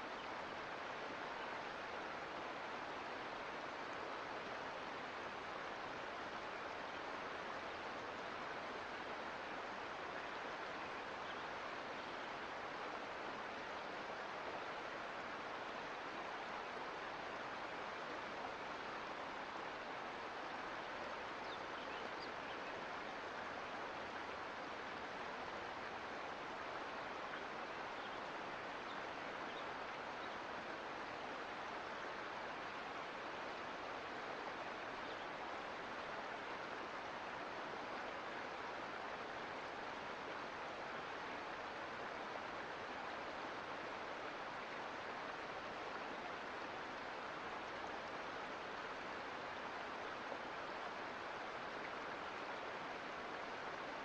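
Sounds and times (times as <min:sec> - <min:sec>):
creek water running: 0:00.0 - 0:54.0.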